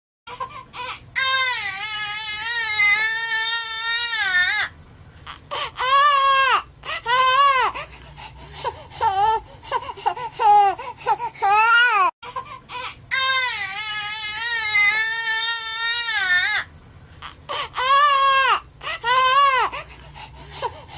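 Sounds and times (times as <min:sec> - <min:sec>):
baby crying: 0:00.3 - 0:04.7, 0:05.3 - 0:07.9, 0:09.0 - 0:19.8.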